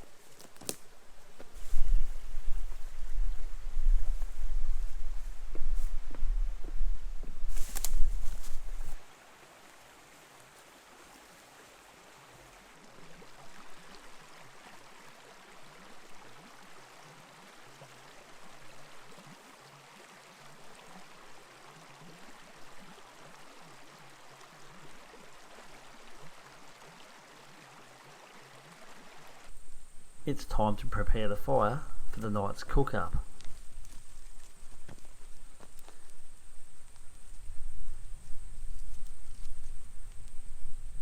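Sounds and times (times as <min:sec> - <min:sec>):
creek flowing: 0:00.0 - 0:41.0.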